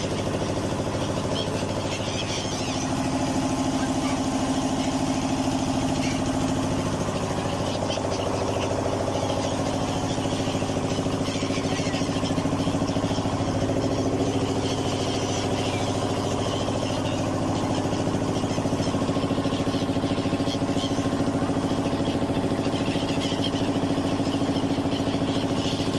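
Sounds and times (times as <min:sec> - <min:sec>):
motorboat engine running: 0:00.0 - 0:25.9.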